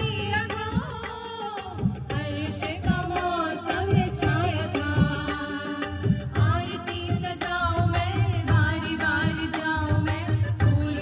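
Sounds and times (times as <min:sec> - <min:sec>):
women singing into microphones: 0:00.0 - 0:11.0.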